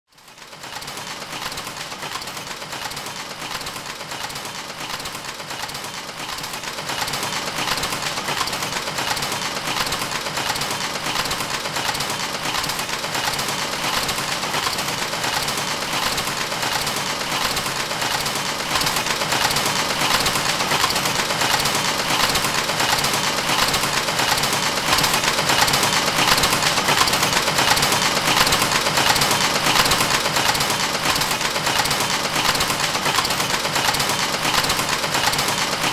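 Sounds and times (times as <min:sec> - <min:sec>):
rhythmic machinery clatter: 0:00.2 - 0:35.9.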